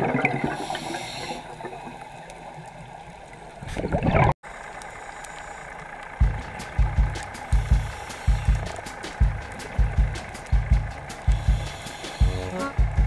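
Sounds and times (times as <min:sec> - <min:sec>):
scuba bubbles gurgling: 0:00.0 - 0:12.5
underwater hiss: 0:00.4 - 0:03.0, 0:04.8 - 0:13.0.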